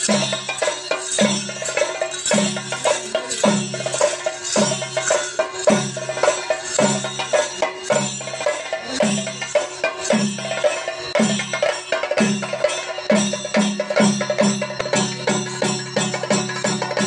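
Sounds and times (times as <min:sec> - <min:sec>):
drums: 0:00.0 - 0:17.0
small hand cymbals: 0:00.0 - 0:17.0.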